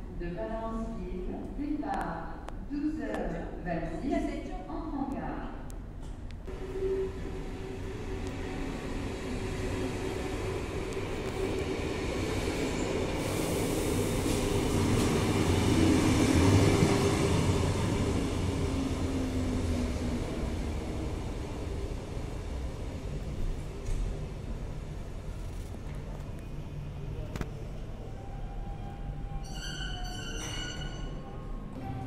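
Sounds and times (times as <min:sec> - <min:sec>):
electric train rumbling and humming: 0:05.6 - 0:32.0.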